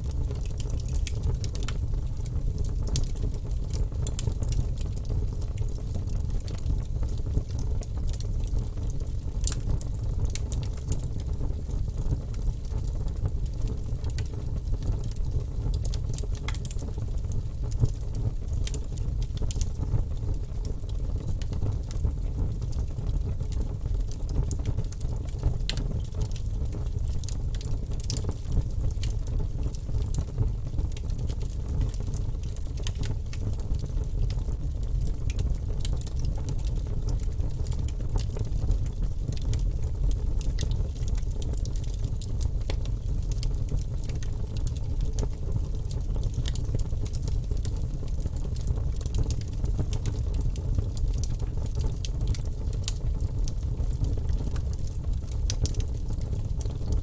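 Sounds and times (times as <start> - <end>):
fire crackling and popping: 0.0 - 57.0
fire low rumble: 0.0 - 57.0.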